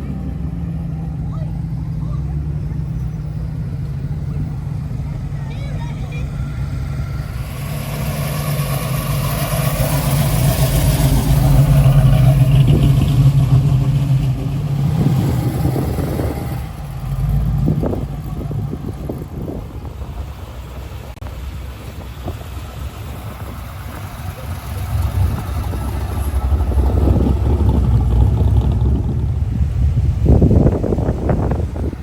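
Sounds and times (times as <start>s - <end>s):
car engine passing: 0.0s - 32.0s.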